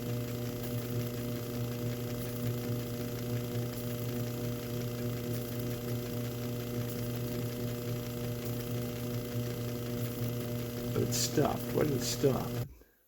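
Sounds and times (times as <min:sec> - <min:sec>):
lathe motor hum: 0:00.0 - 0:12.7.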